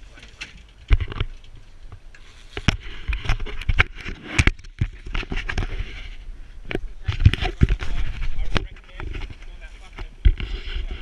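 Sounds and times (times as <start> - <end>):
camera knocks and scrapes: 0.9 - 1.3, 1.9 - 11.0.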